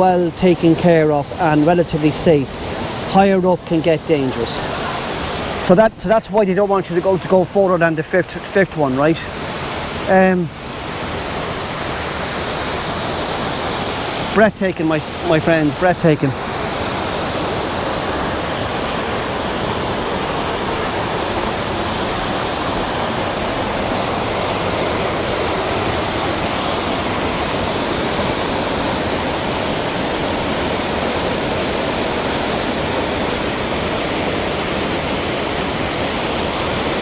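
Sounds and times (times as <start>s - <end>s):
waterfall rushing into pool: 0.0s - 37.0s.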